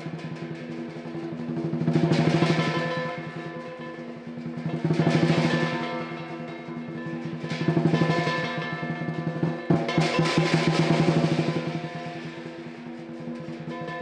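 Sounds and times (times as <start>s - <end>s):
drum beating fast rolls: 0.0s - 3.6s, 4.2s - 14.0s
ringing metal percussion: 0.0s - 14.0s.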